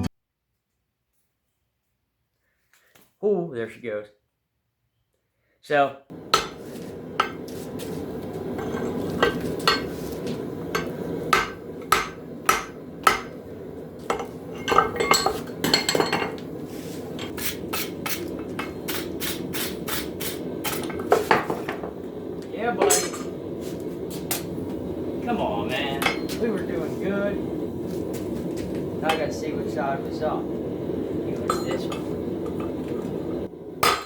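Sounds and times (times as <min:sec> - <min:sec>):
steady low hum: 0:06.1 - 0:34.0.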